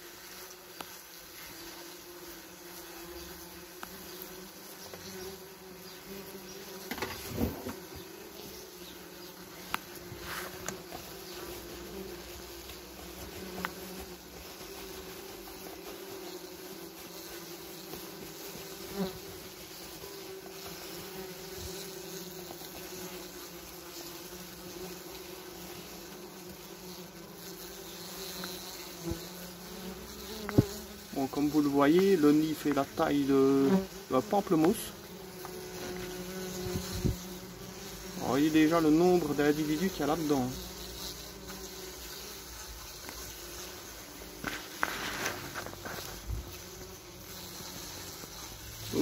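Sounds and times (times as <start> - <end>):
wasps buzzing: 0.0 - 49.0.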